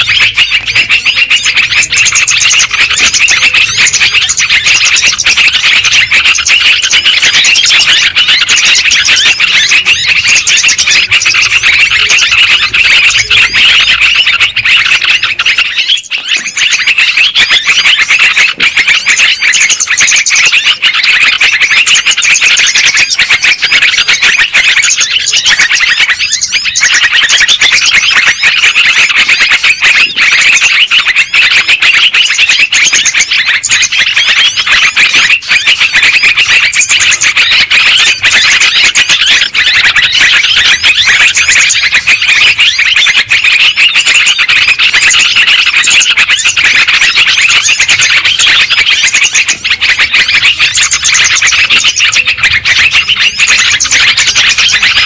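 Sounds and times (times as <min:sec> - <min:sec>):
bulbuls chirping chorus: 0:00.0 - 0:55.0.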